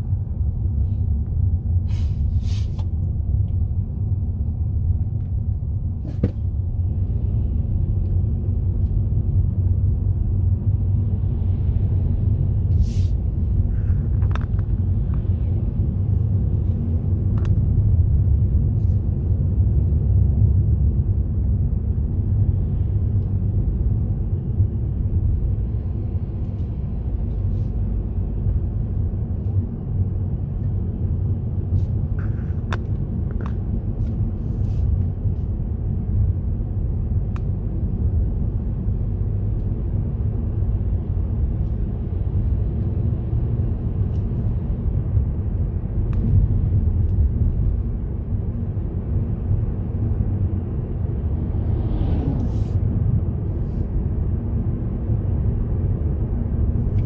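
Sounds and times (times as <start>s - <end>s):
car driving on road: 0.0s - 57.0s.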